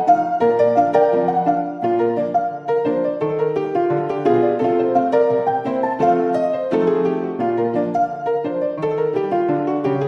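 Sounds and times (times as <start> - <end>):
piano melody over chords: 0.0 - 10.0.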